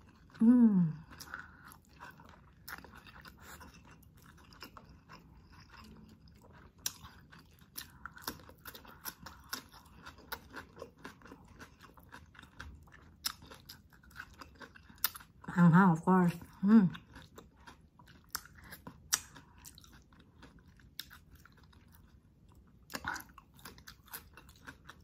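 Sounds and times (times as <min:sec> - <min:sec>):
wet chewing and mouth clicks: 0:00.0 - 0:15.5, 0:16.4 - 0:25.0.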